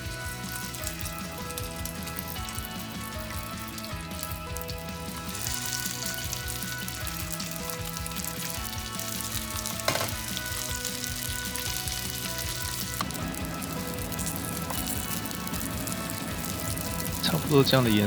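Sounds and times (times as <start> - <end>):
rice balls sizzling in pan: 0.0 - 18.0.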